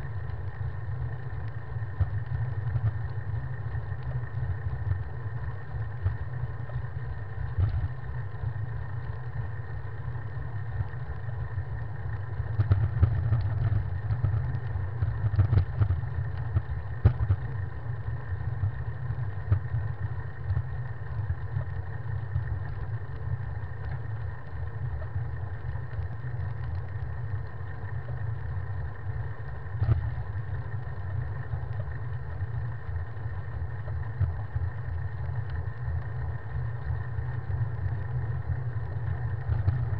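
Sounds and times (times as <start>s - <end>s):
wind rumbling on microphone: 0.0s - 38.1s.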